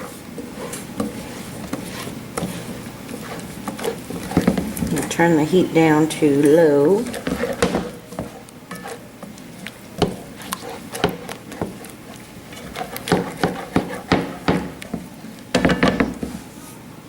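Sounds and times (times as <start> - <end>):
whisk scraping against a pan: 0.0 - 15.4.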